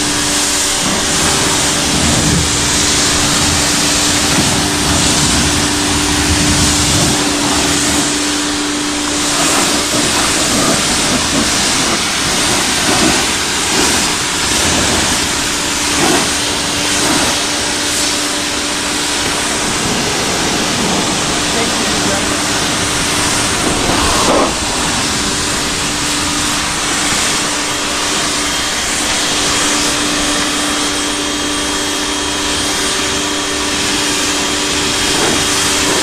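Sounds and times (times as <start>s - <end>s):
motor and pump humming: 0.0s - 36.0s
water jet spraying: 0.0s - 36.0s.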